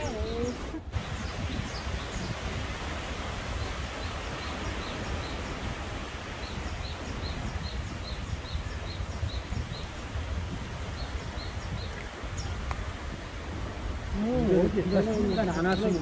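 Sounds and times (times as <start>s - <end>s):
leaves rustling in wind: 0.0s - 16.0s
wind rumble on microphone: 0.0s - 16.0s.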